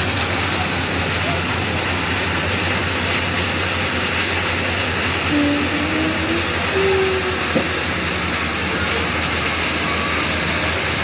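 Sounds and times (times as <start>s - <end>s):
wagon rolling rumble: 0.0s - 11.0s.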